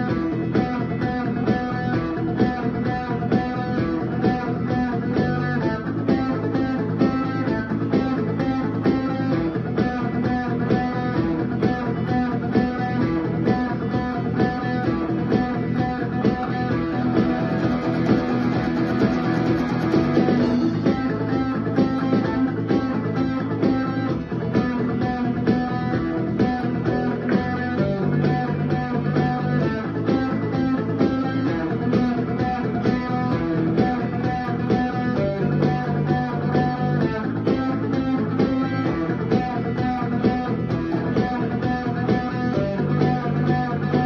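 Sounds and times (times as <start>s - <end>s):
rock music with electric guitar: 0.0s - 44.0s.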